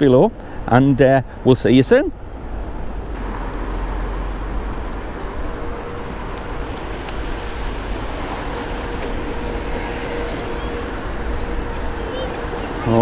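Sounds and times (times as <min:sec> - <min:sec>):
faint steady hum: 0:00.0 - 0:13.0
wind buffeting microphone: 0:02.2 - 0:13.0.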